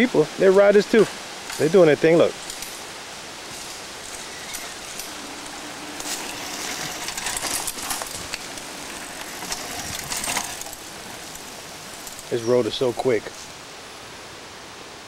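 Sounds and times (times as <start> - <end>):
bike tyres crunching leaves: 0.0 - 13.6
bikes rattling and clicking: 0.4 - 13.6.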